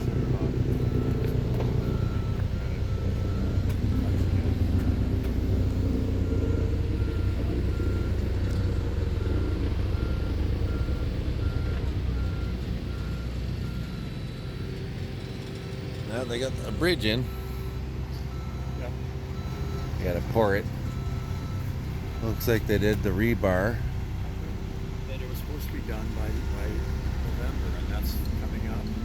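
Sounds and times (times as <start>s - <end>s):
heavy engine rumble: 0.0s - 29.0s
reversing alarm beeping: 0.0s - 29.0s.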